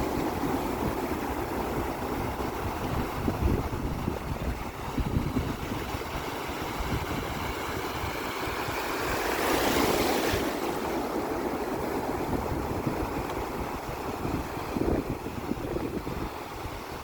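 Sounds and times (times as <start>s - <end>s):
sea waves washing ashore: 0.0s - 17.0s
wind buffeting microphone: 0.0s - 17.0s.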